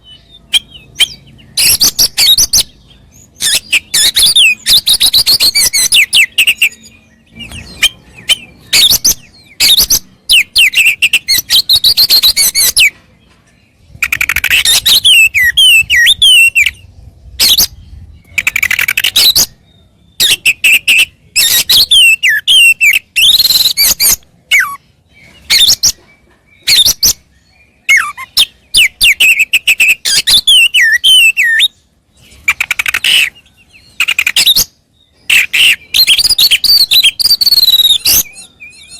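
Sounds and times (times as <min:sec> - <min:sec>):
songbird singing whistles: 0:00.0 - 0:13.0, 0:13.9 - 0:38.9.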